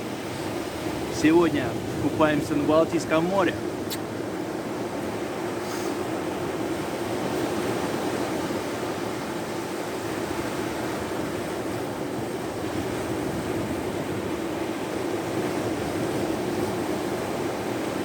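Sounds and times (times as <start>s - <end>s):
sea at the shore: 0.0s - 18.0s
wind: 0.0s - 18.0s.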